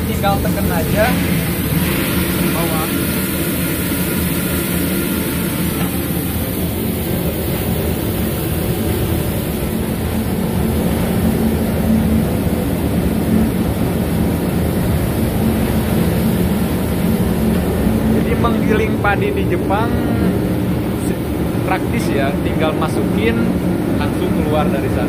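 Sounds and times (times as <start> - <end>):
rice-milling machine droning: 0.0 - 25.0.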